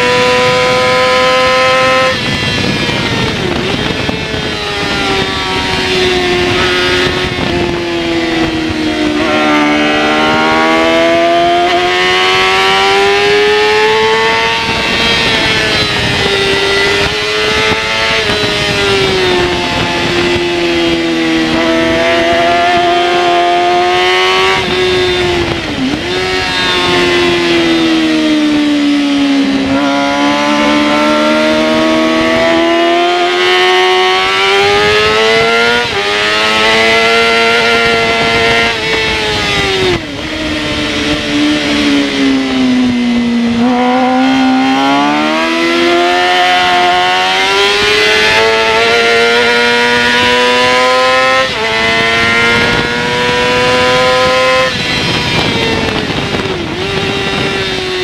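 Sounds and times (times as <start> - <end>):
motorcycle engine at racing speed: 0.0 - 58.0.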